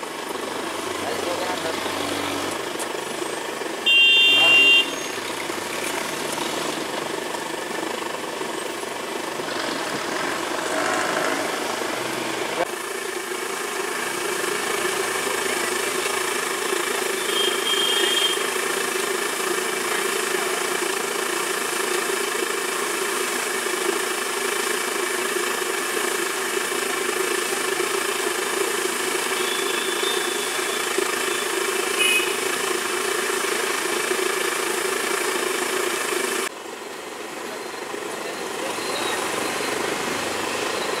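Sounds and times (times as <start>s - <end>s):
street noise: 0.0s - 41.0s.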